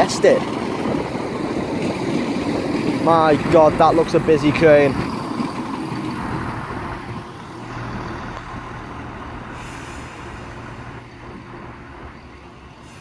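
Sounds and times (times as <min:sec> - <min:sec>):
station noise: 0:00.0 - 0:13.0
train engine humming: 0:00.0 - 0:13.0.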